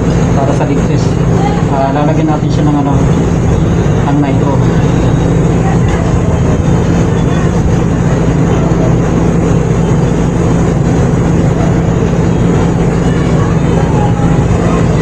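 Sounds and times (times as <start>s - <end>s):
vacuum pump droning: 0.0s - 15.0s.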